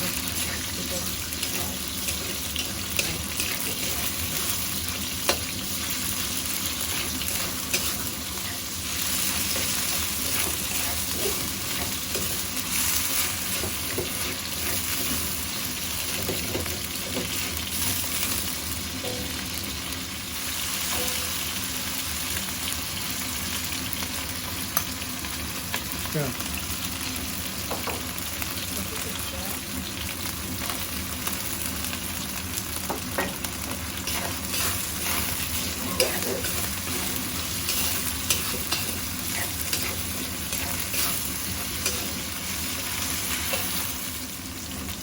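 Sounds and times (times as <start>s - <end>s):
food sizzling in oil: 0.0s - 45.0s.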